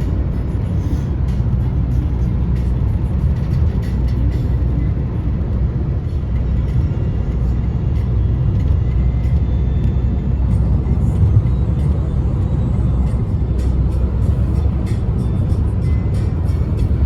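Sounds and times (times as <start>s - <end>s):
road vehicle rumble: 0.0s - 17.0s.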